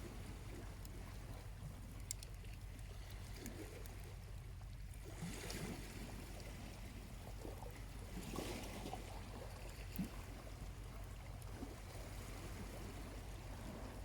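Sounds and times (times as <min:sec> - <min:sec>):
low steady rumble: 0:00.0 - 0:14.0
small waves lapping on a beach: 0:00.0 - 0:14.0.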